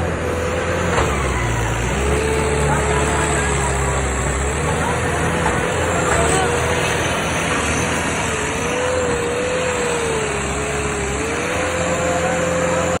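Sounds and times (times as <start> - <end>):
tractor engine whining: 0.0 - 13.0.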